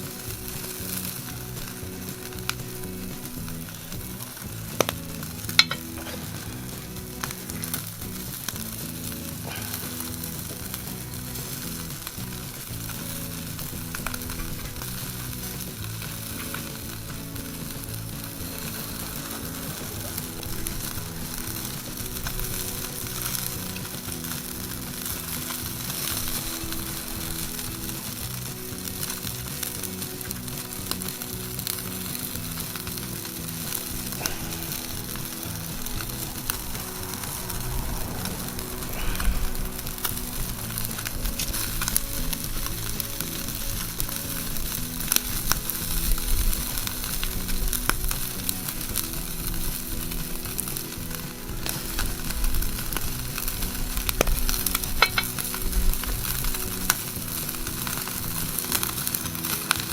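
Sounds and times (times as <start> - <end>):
fire pops and crackles: 0.0 - 59.9
skewers sizzling over charcoal: 0.0 - 59.9.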